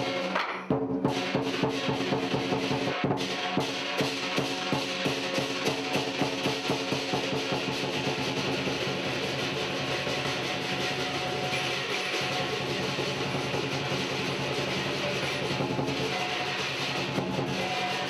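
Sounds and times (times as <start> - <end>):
cymbals and ringing tones: 0.0 - 18.0
drum beating: 0.0 - 18.0.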